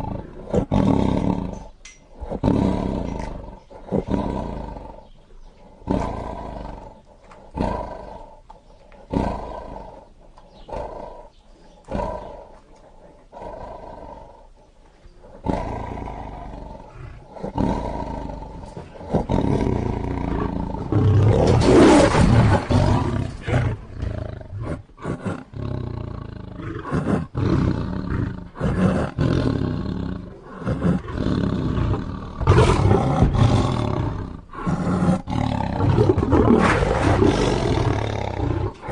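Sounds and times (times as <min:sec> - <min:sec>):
lion roaring: 0:00.0 - 0:08.4, 0:09.0 - 0:14.6, 0:15.2 - 0:38.9.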